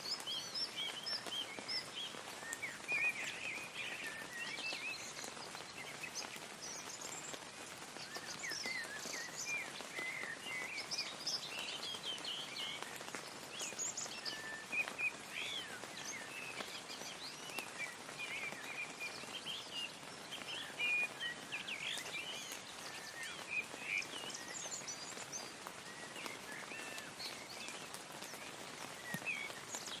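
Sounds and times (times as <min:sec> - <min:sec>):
light rain patter: 0:00.0 - 0:30.0
songbirds chirping: 0:00.0 - 0:30.0.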